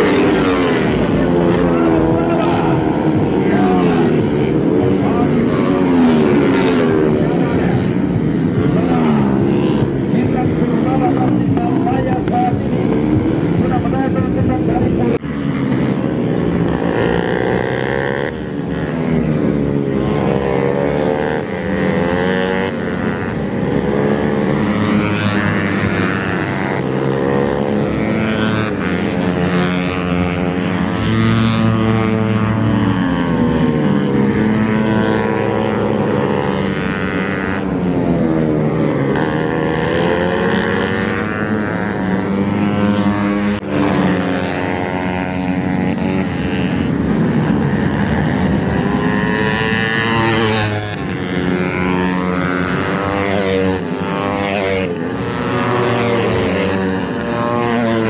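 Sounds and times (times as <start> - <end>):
racing motorcycle engines revving: 0.0 - 58.0.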